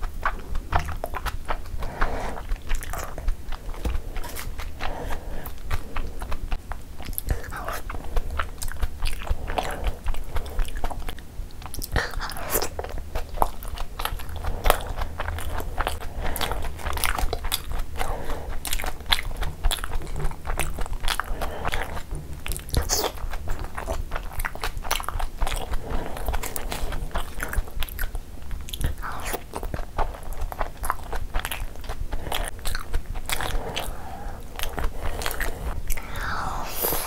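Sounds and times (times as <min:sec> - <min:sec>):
mouth chewing and biting: 0:00.0 - 0:37.0.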